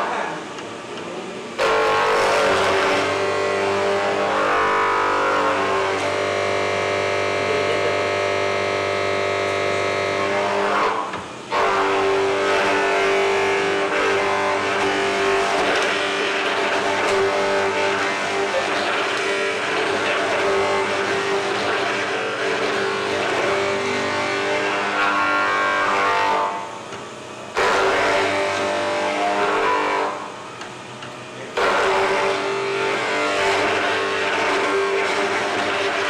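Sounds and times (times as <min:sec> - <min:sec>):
boring machine drilling wood: 0:01.6 - 0:26.7, 0:27.5 - 0:30.4, 0:31.6 - 0:36.0.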